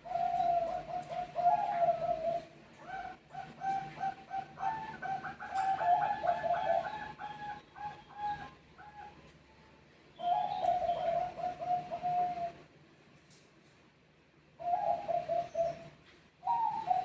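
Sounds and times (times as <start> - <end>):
doves cooing: 0.0 - 9.3, 10.2 - 12.7, 14.6 - 17.0.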